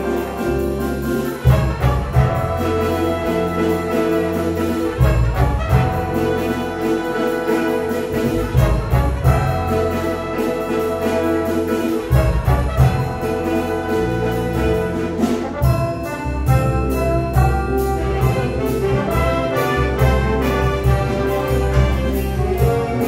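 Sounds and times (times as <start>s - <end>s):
jazz big band playing: 0.0s - 23.0s.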